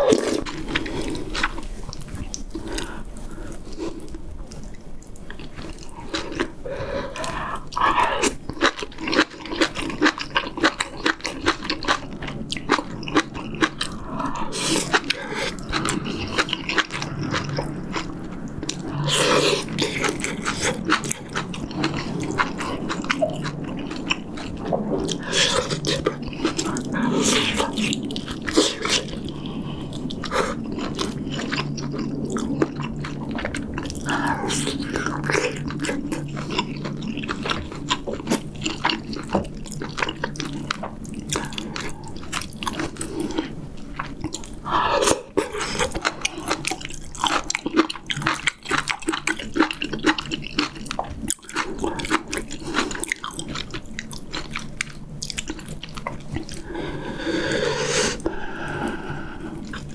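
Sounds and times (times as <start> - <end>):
chewing and biting meat: 0.0 - 3.0, 3.6 - 59.9
faint low hum: 0.0 - 59.9.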